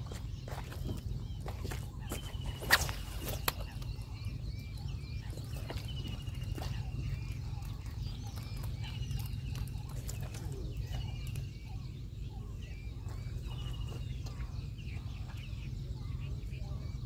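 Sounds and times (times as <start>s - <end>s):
bird trill: 0.0s - 17.0s
birds chirping and whistling: 0.0s - 17.0s.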